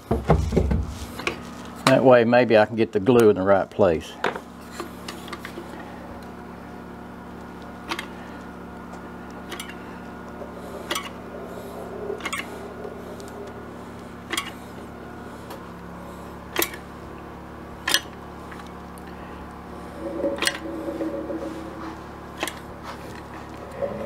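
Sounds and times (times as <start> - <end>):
low hum: 4.5 - 24.0.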